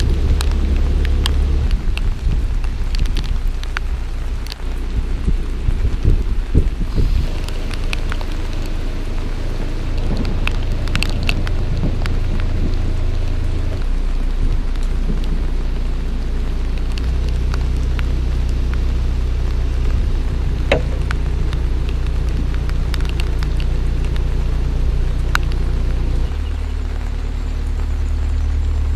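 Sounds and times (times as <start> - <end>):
boat engine droning: 0.0 - 28.9
rain falling: 0.0 - 28.9
raindrops tapping on a boat: 0.0 - 28.9.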